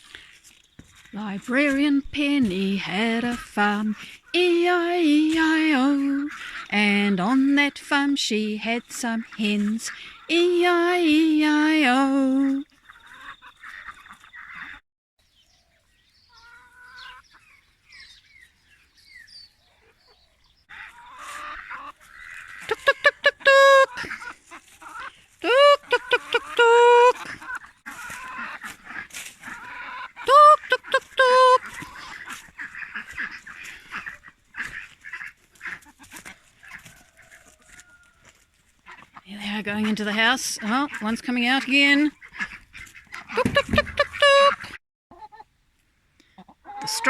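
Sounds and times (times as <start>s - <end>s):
hens clucking: 0.0s - 14.8s, 16.3s - 17.5s, 19.6s - 45.5s, 46.3s - 47.0s.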